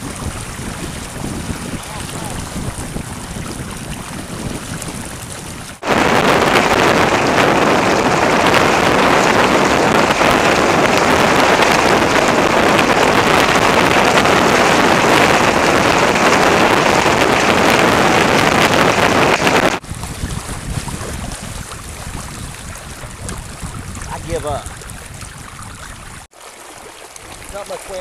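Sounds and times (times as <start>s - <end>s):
loud wind on microphone: 0.0s - 26.3s
water rushing along hull: 0.0s - 28.0s.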